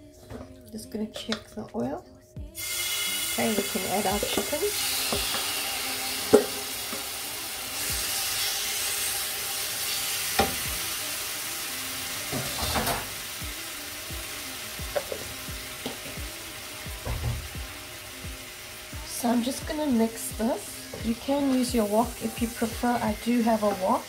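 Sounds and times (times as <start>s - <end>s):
chicken sizzling in hot oil: 2.6s - 24.0s.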